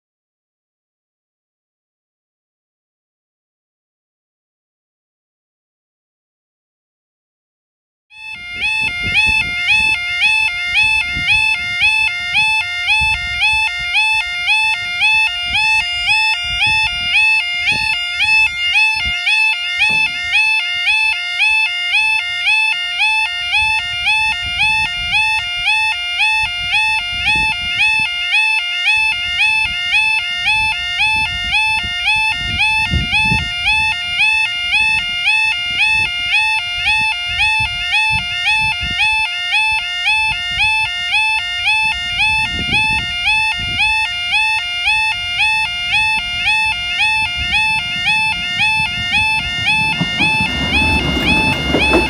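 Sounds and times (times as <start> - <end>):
level crossing warbling alarm: 8.1 - 52.0
wind buffeting microphone: 8.3 - 28.3, 28.9 - 52.0.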